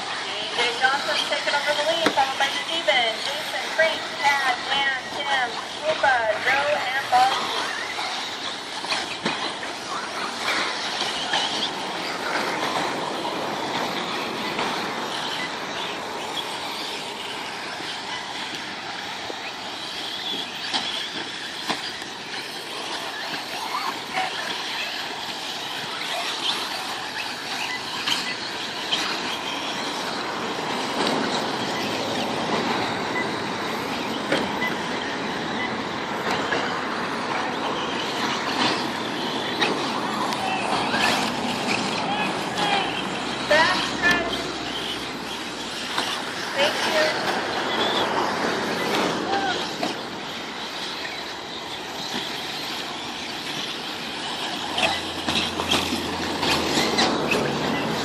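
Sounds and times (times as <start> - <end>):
electric motors whining: 0.0 - 58.0.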